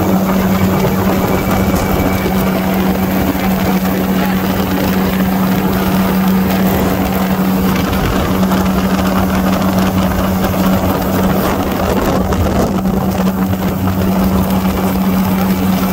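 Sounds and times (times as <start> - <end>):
small aircraft engine drone: 0.0 - 15.9.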